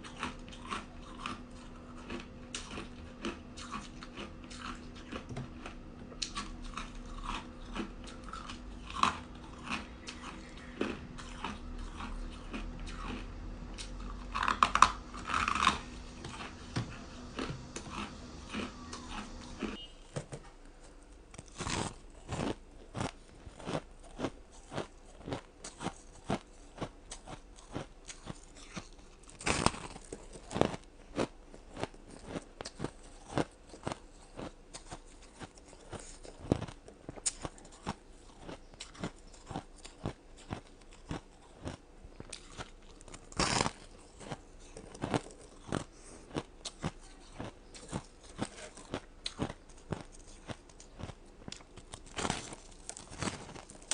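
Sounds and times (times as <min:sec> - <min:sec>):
ice being chewed: 0:00.0 - 0:19.9, 0:20.6 - 0:53.9.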